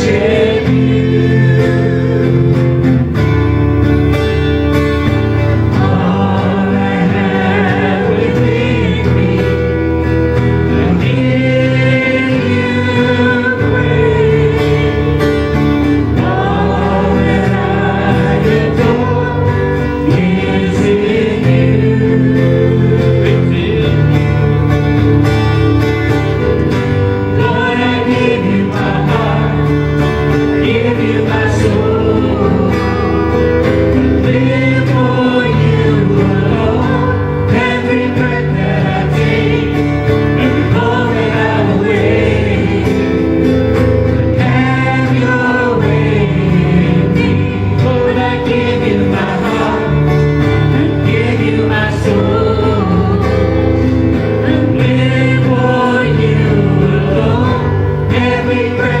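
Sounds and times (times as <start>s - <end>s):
bass line: 0.0s - 59.0s
guitar: 0.0s - 59.0s
voices singing together: 0.0s - 59.0s.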